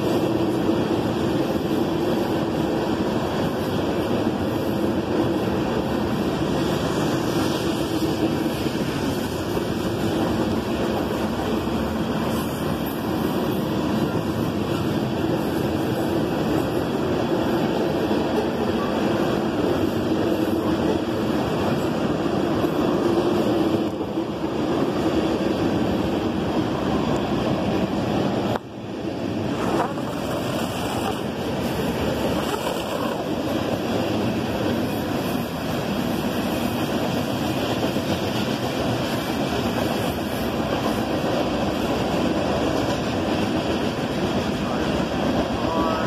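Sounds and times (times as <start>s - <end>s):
freight train rolling past: 0.0s - 46.0s.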